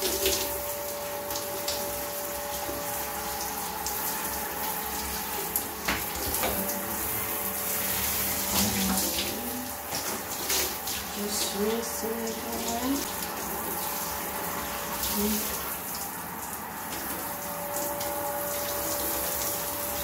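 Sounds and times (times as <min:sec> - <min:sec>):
shower spray hissing on glass: 0:00.0 - 0:20.0.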